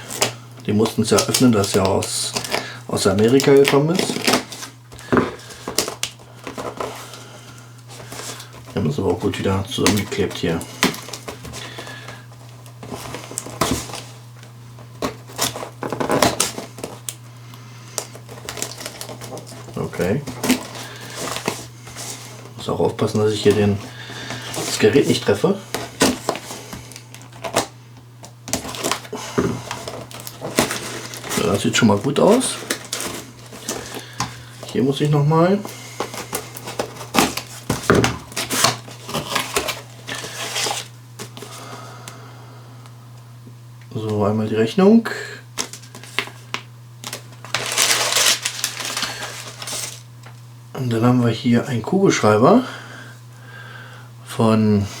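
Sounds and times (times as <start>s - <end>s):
tape and cardboard rustling: 0.0s - 41.8s, 45.6s - 50.4s.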